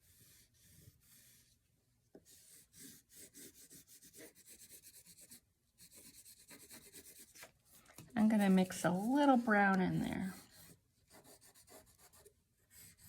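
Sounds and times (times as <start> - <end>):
colouring strokes scratching paper: 0.0 - 1.6, 2.2 - 13.0.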